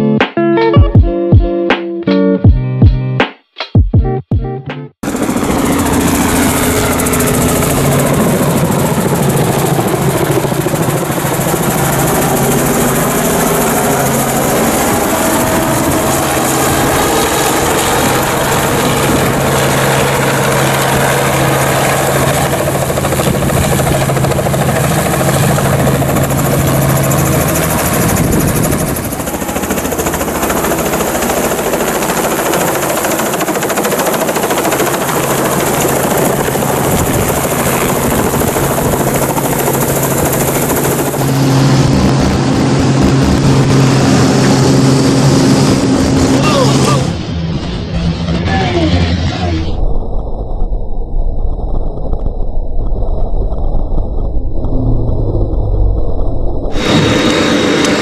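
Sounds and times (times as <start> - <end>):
helicopter rotor and engine: 5.0 - 51.2, 51.8 - 58.0.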